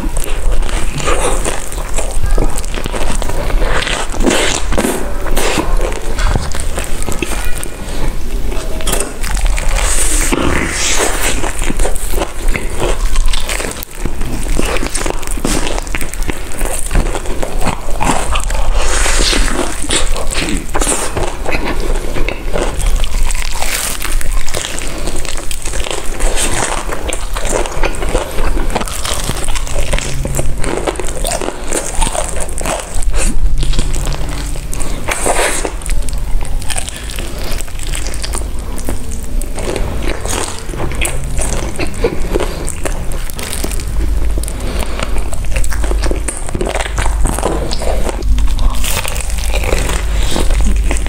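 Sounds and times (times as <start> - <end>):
crunchy bites and chewing: 0.0 - 51.0
irregular crackles: 0.0 - 51.0.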